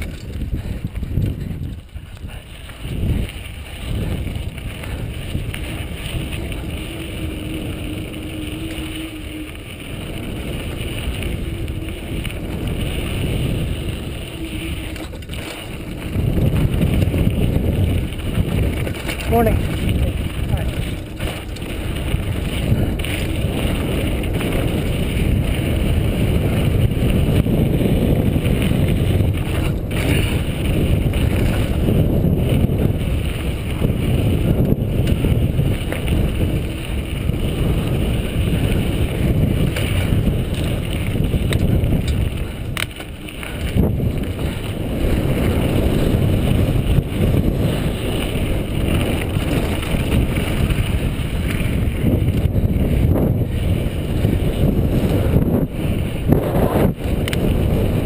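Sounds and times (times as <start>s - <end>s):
bike tyres rolling on dirt: 0.0s - 58.0s
wind buffeting microphone: 0.0s - 58.0s.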